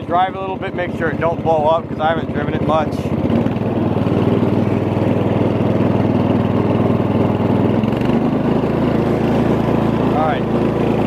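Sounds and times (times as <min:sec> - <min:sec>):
riding lawn mower engine running: 0:00.0 - 0:11.0.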